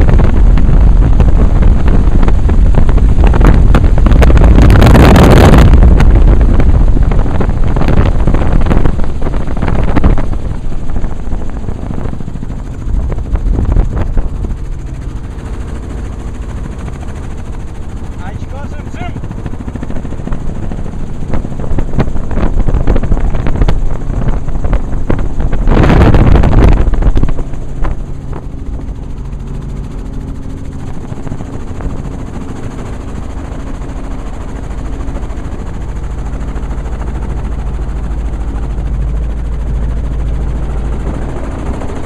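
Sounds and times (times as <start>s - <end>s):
helicopter engine and rotor drone: 0.0s - 42.0s.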